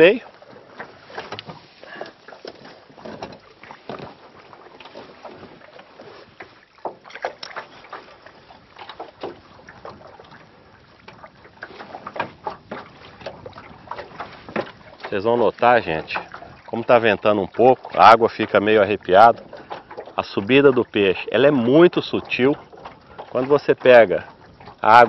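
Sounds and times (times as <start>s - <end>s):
light knocks and splashes: 0.0s - 25.0s
water lapping against boat hull: 0.0s - 25.0s.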